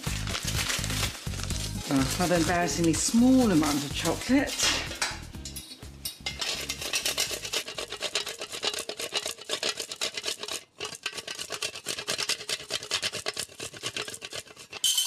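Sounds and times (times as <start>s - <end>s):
chocolate grated on metal grater: 0.0s - 15.0s.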